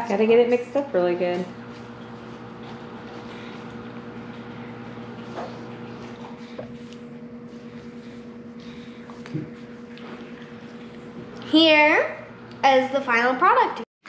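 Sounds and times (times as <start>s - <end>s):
low room hum: 0.0s - 13.8s.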